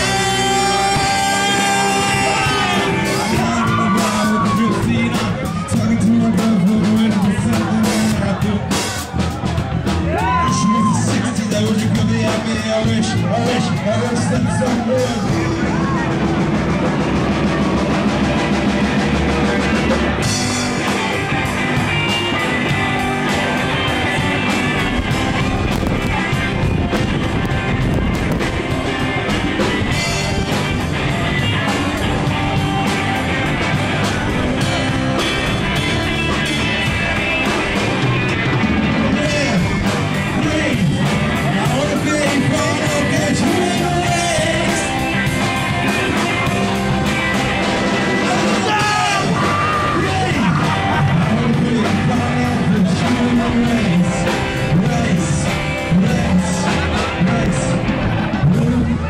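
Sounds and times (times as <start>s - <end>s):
person singing: 0.0s - 18.6s, 28.7s - 59.0s
crowd yelling: 0.0s - 59.0s
rock band playing live: 0.0s - 59.0s.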